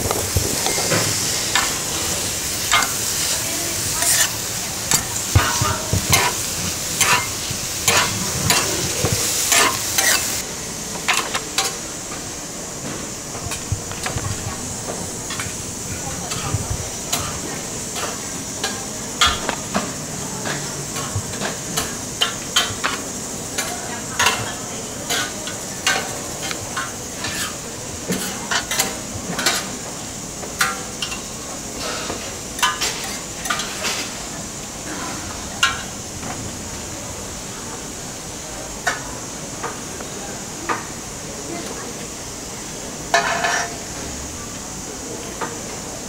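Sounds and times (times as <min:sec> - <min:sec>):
steady high hiss: 0:00.0 - 0:46.0.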